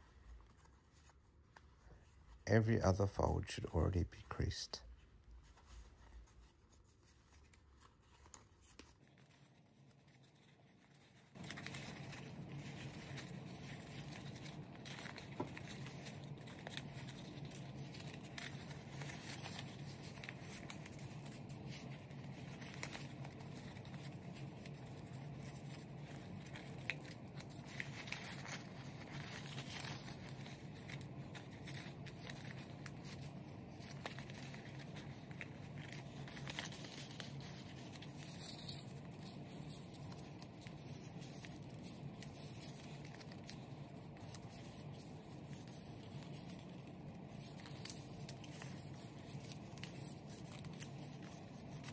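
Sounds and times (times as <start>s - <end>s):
low steady hum: 0.0s - 51.9s
paper crinkling and rustling: 0.0s - 51.9s.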